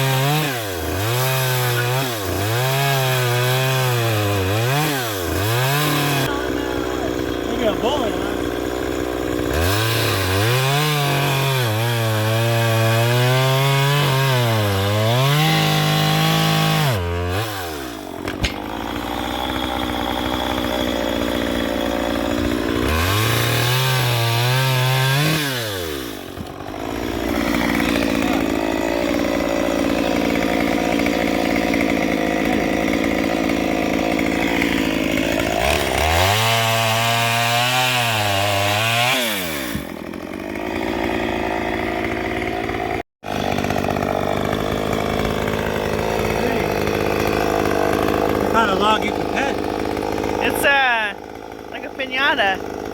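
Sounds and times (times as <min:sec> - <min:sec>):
chainsaw cutting log: 0:00.0 - 0:52.9.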